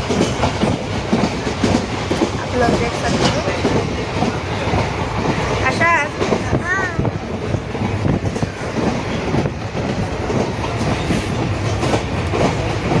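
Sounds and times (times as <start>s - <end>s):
low rumble of running train: 0.0s - 13.0s
train wheels and carriage clattering: 0.0s - 13.0s.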